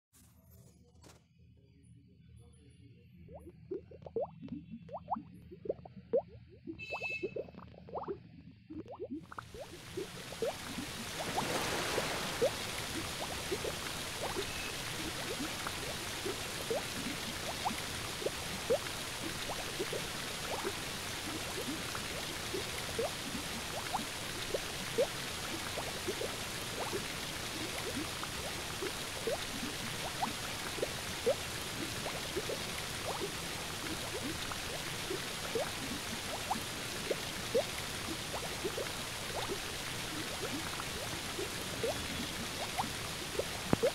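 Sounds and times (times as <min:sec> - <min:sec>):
water drops plinking: 0:03.4 - 0:43.9.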